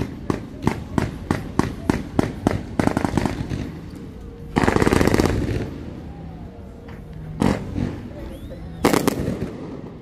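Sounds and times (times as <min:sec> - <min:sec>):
fireworks bangs: 0:00.0 - 0:06.0, 0:07.3 - 0:10.0
fireworks crackling: 0:00.0 - 0:06.3, 0:07.0 - 0:10.0.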